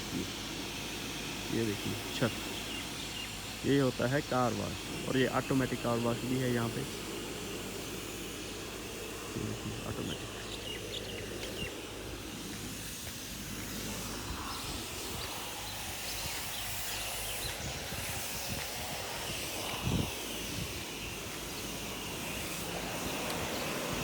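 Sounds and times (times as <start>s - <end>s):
even hiss: 0.0s - 24.0s.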